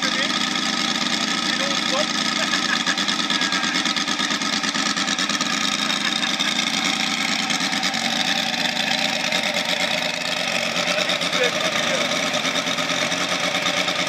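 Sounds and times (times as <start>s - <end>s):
model airplane engine running: 0.0s - 14.0s.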